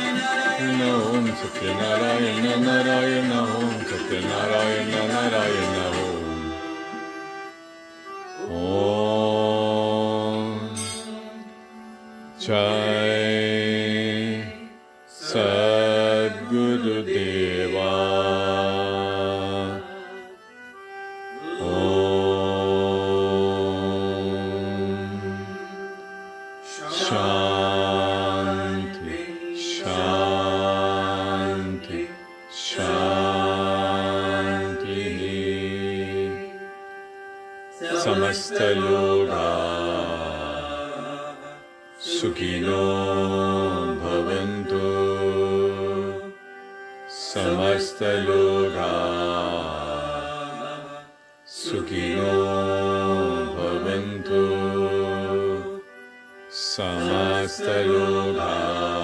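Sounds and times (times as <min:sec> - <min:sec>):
voices chanting: 0:00.0 - 0:07.5, 0:12.3 - 0:20.3, 0:21.4 - 0:25.8, 0:26.6 - 0:36.7, 0:37.7 - 0:46.4, 0:47.1 - 0:59.0
steady drone: 0:00.0 - 0:59.0.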